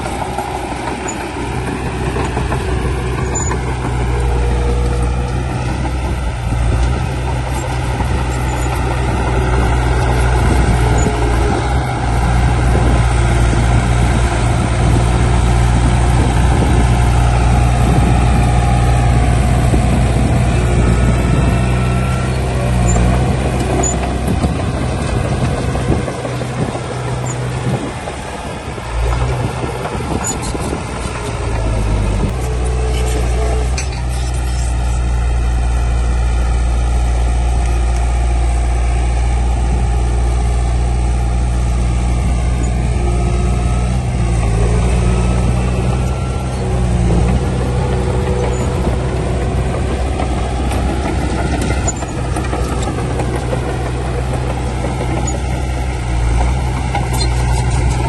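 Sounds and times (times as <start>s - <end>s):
diesel earthmoving machinery drone: 0.0s - 58.0s.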